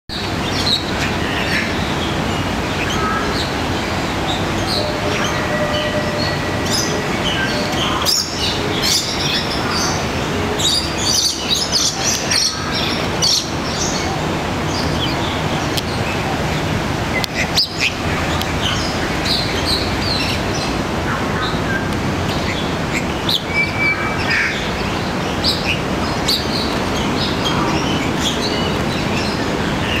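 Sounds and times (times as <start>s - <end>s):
steady background noise: 0.1s - 30.0s.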